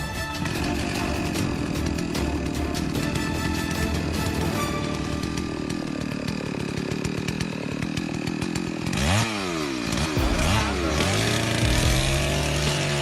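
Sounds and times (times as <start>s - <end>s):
chainsaw engine revving: 0.1s - 13.0s.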